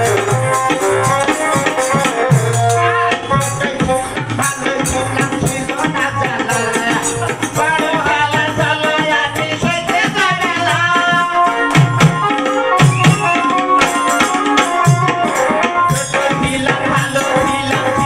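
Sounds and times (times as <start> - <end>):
hand drum beats: 0.0 - 18.0
rattling percussion: 0.0 - 18.0.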